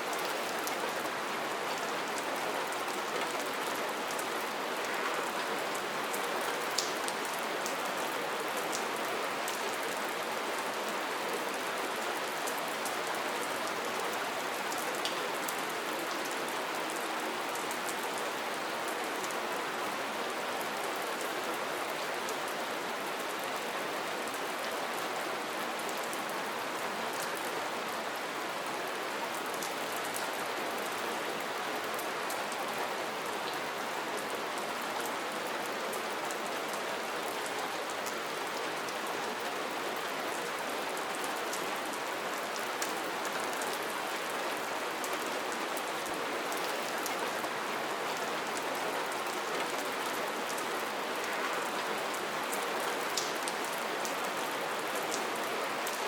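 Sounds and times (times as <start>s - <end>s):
rain pattering: 0.1s - 19.4s, 28.2s - 56.0s.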